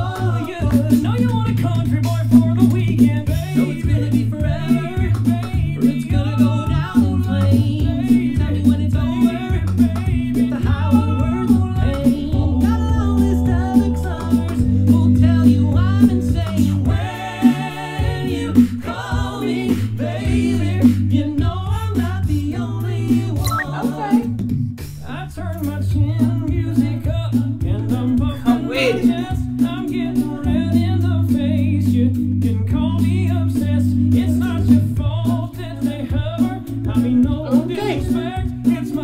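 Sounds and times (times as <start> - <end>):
a cappella group singing: 0.0 - 39.0
beatboxed vocal percussion: 0.0 - 39.0
deep bass voice: 0.0 - 39.0.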